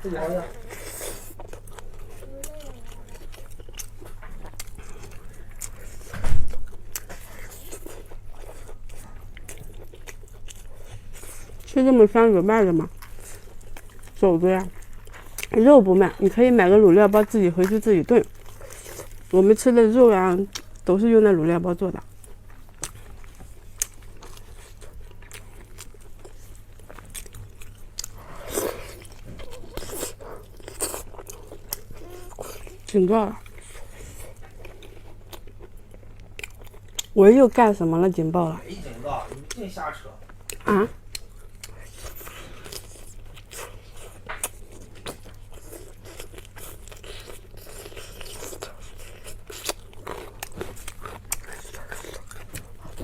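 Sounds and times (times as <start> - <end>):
low electrical hum: 0.0 - 53.0
person chewing meat: 0.2 - 11.8, 12.5 - 16.2, 16.9 - 19.4, 20.2 - 20.9, 22.0 - 37.2, 39.0 - 53.0.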